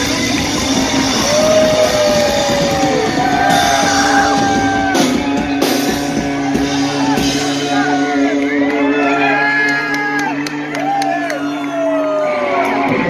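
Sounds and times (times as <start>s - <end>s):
live heavy metal band: 0.0s - 13.0s.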